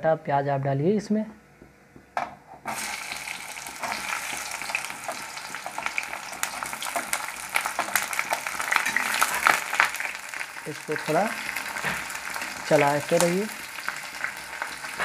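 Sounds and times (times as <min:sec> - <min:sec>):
onions sizzling in hot oil: 0:02.7 - 0:15.0.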